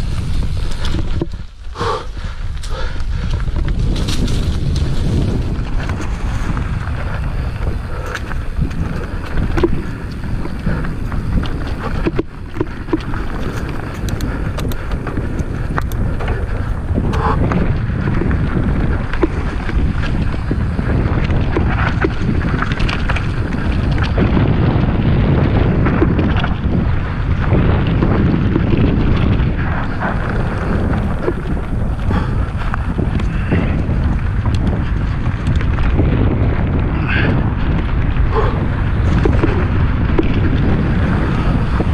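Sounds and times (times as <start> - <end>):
bike clicks and rattles: 0.0 - 41.9
bike tyres on dirt and leaves: 0.0 - 41.9
wind rumbling on microphone: 0.0 - 41.9.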